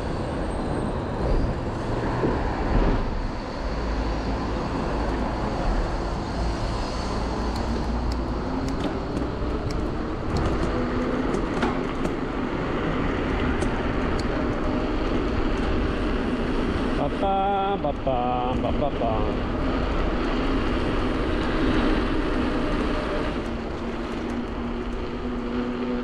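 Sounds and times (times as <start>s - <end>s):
tyres on road: 0.0s - 26.0s.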